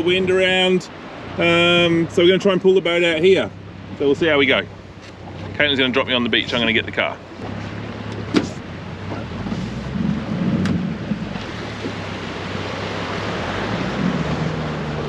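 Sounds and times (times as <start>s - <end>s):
outboard motor running: 0.0s - 15.0s
wind and water rushing: 0.0s - 15.0s.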